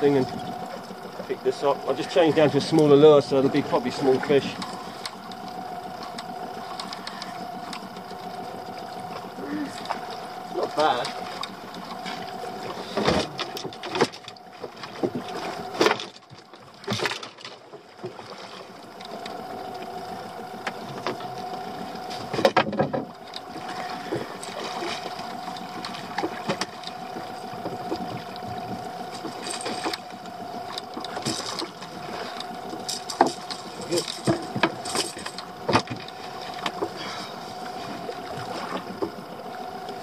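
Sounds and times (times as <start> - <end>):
steady hum: 0.0 - 40.0
water slapping boat hull: 0.0 - 40.0
water splashes: 0.0 - 40.0.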